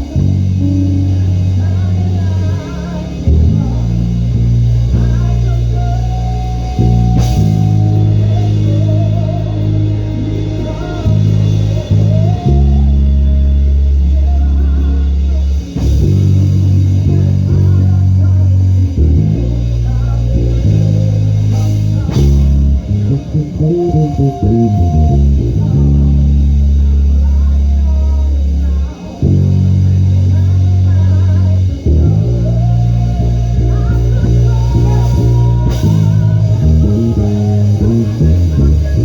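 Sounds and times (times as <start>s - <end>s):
band playing live: 0.0s - 39.0s
bass guitar low notes: 0.0s - 39.0s
wavering melody line: 0.0s - 39.0s.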